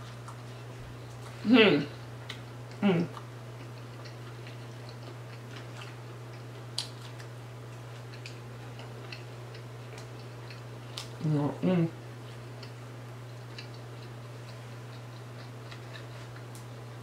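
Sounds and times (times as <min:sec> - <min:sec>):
steady low hum: 0:00.0 - 0:17.0
person chewing crunchy food: 0:02.0 - 0:11.2, 0:12.1 - 0:17.0.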